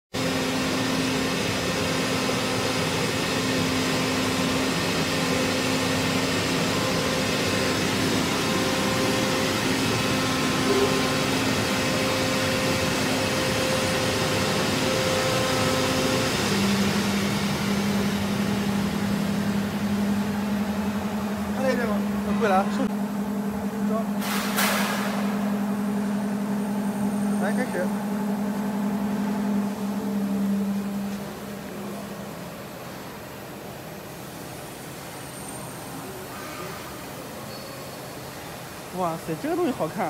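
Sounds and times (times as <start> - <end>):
cutting machine humming and hissing: 0.2 - 40.0.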